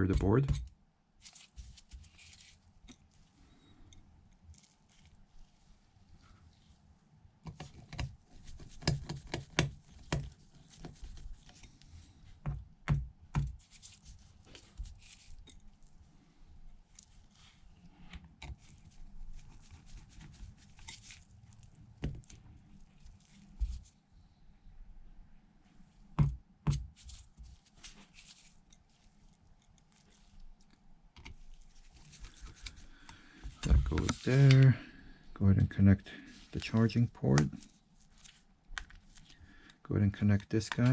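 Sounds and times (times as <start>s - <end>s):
faint ticks and light scrapes: 0.1s - 6.8s, 7.4s - 12.3s, 13.6s - 16.0s, 16.7s - 24.0s, 26.9s - 40.9s.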